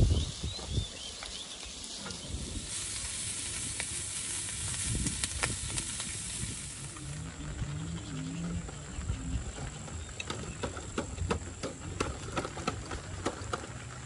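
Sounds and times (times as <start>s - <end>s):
steady hiss: 0.0s - 13.7s
sharp crackles: 0.0s - 14.0s.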